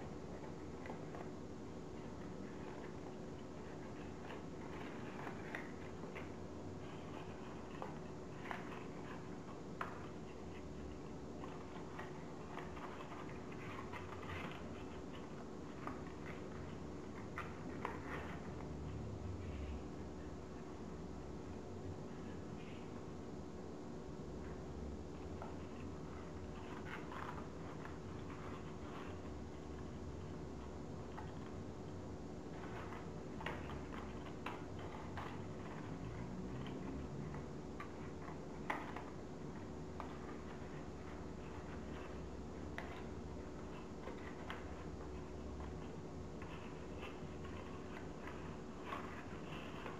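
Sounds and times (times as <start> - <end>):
paper rustling and crinkling: 0.0 - 18.7, 25.3 - 31.7, 32.3 - 49.9
faint steady hum: 0.0 - 49.9.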